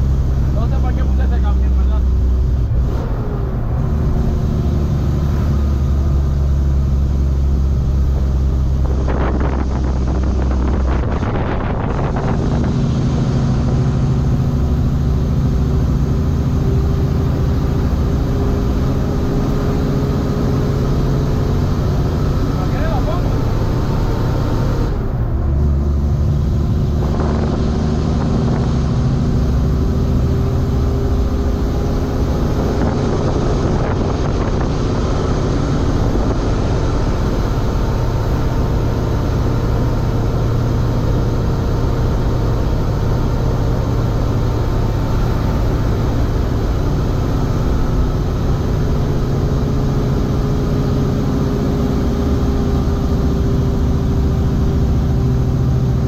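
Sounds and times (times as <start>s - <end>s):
truck diesel engine driving: 0.0s - 56.0s.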